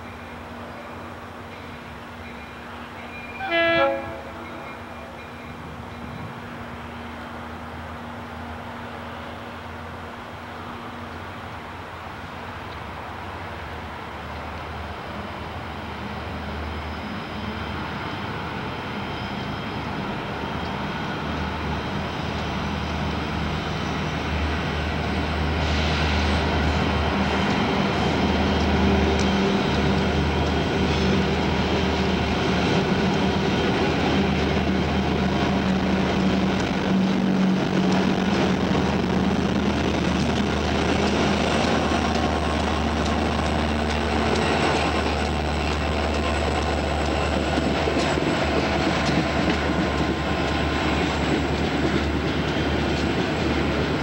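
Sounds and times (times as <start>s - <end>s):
diesel locomotives droning: 0.0s - 54.0s.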